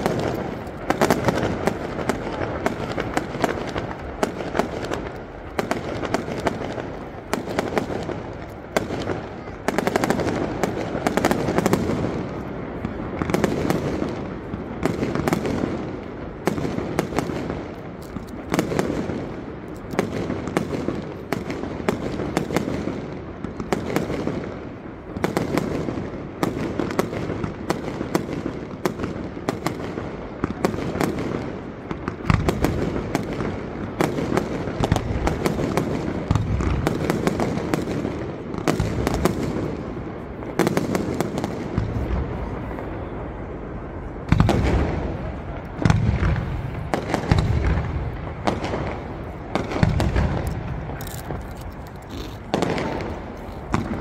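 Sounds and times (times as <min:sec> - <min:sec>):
deep fireworks booms: 0:00.0 - 0:54.0
fireworks bangs and crackles: 0:00.0 - 0:54.0.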